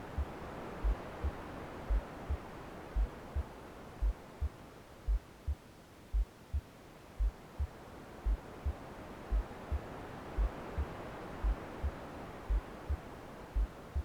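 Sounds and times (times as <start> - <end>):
soft white noise: 0.0 - 14.0
slow heartbeat thumps: 0.2 - 14.0.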